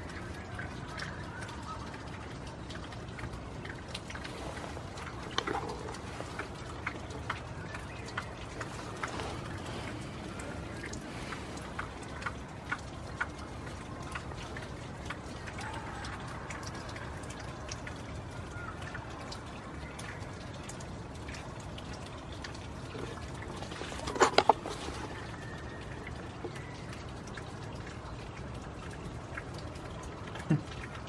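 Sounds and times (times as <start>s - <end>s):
drops ticking close by: 0.0s - 31.0s
steady rain: 0.0s - 31.0s.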